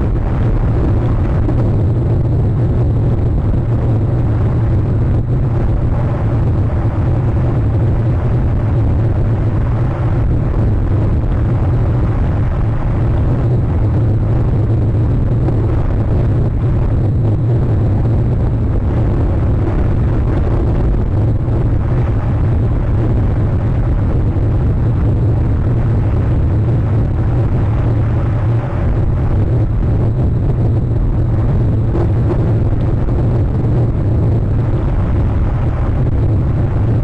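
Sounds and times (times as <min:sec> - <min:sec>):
loud wind rumble on microphone: 0:00.0 - 0:37.0.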